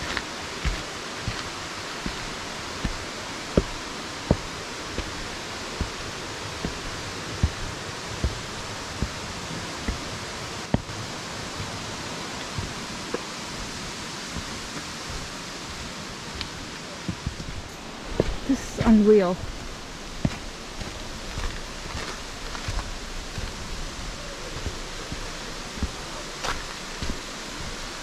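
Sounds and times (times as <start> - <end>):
flowing water rushing: 0.0 - 28.0
footsteps on wooden steps: 0.0 - 28.0.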